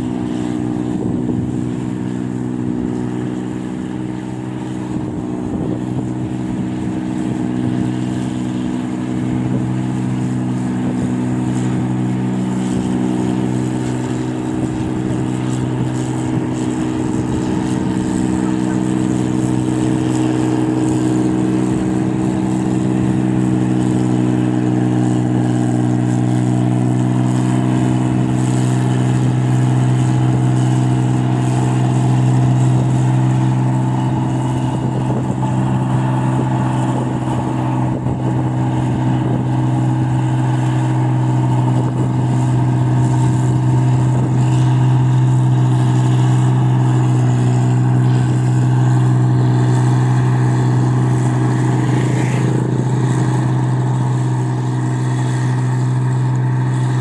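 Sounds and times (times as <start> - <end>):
combine harvester diesel engine: 0.0 - 57.0.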